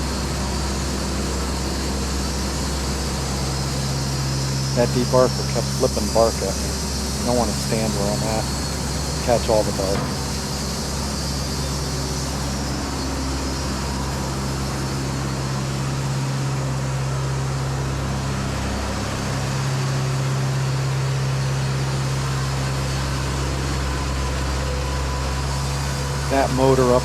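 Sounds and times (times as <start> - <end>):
diesel engine running sawmill: 0.0 - 27.0.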